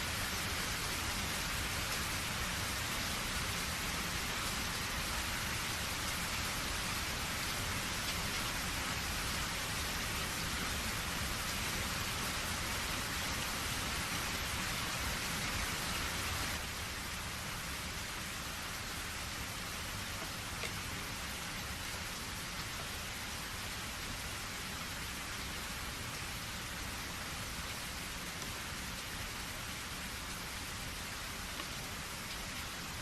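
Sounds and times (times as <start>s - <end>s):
rain falling steadily: 0.0s - 33.0s.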